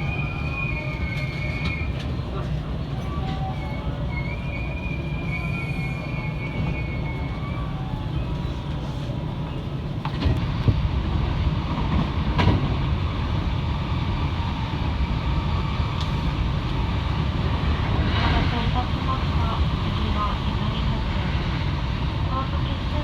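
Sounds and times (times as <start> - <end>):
electric train rumbling on rails: 0.0 - 23.0.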